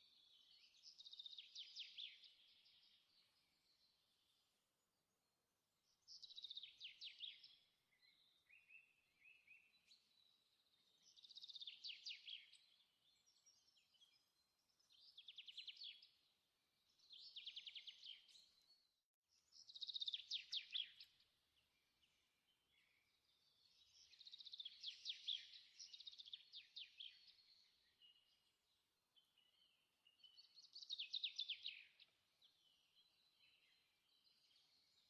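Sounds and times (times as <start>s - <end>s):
soft bird chirps: 0.0s - 5.0s, 5.9s - 35.0s.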